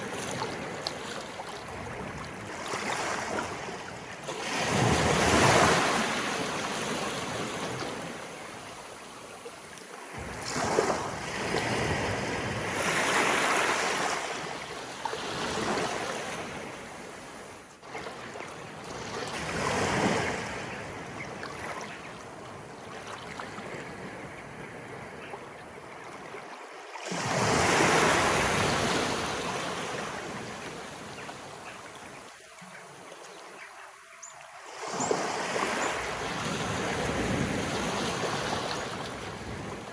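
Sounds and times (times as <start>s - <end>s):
sea waves splashing on shore: 0.0s - 24.1s, 27.0s - 32.2s, 34.5s - 39.9s.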